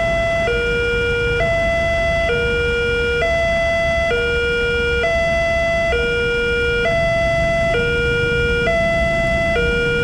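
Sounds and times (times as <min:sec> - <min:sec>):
two-tone crossing alarm: 0:00.0 - 0:10.0.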